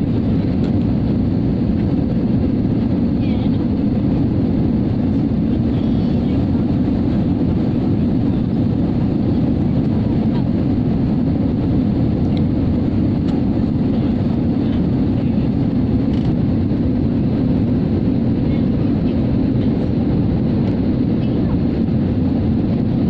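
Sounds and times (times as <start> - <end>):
jet airliner cabin rumble: 0.0 - 23.0.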